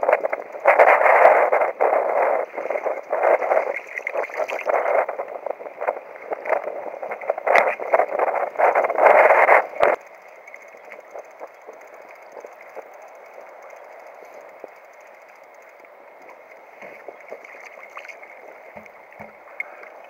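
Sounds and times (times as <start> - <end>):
sea splashing against kayak: 0.0 - 20.0
wind buffeting microphone: 0.0 - 20.0.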